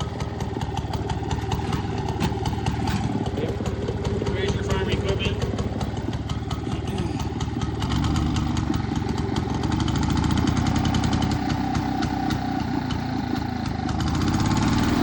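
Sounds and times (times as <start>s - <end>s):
rototiller engine idling: 0.0s - 15.0s.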